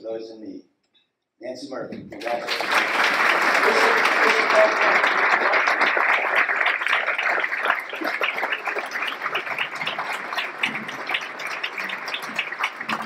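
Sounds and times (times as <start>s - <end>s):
audience applauding: 2.1s - 13.0s.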